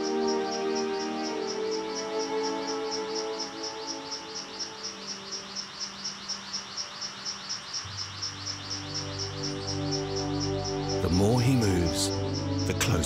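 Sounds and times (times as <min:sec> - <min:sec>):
animal chirping: 0:00.0 - 0:13.0
soft background music: 0:00.0 - 0:13.0.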